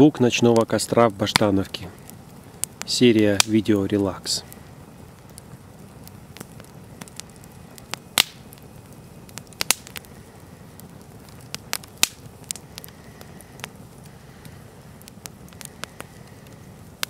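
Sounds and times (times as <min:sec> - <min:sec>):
campfire crackling and popping: 0:00.0 - 0:17.0
low hiss of flames: 0:00.0 - 0:17.0.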